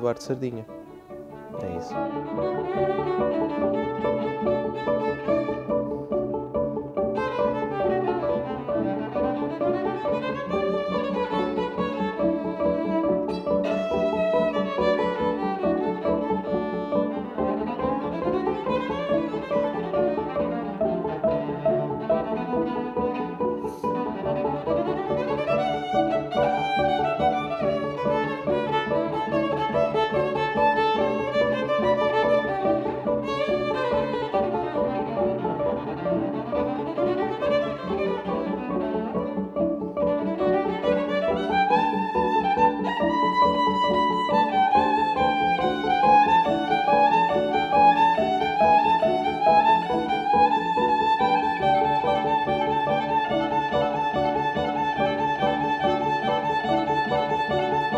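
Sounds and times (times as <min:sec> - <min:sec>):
bowed viola: 0:00.0 - 0:57.9.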